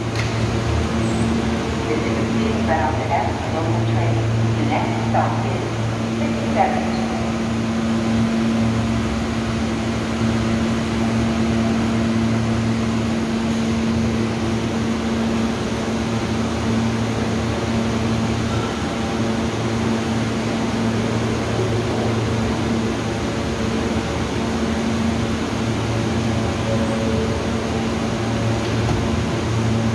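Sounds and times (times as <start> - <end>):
subway car ventilation hum: 0.0 - 29.9.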